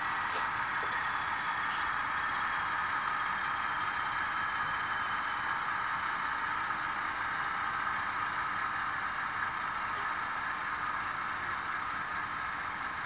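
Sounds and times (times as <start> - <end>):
thin hissy diesel engine idling: 0.0 - 13.0.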